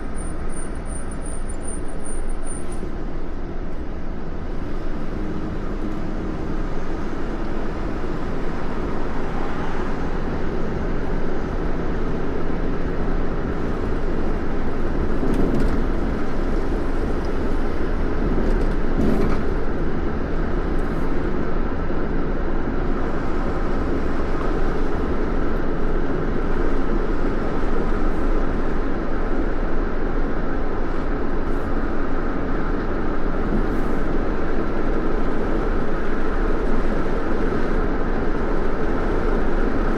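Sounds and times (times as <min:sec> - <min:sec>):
car road noise: 0:00.0 - 0:39.9
low engine hum: 0:00.0 - 0:39.9.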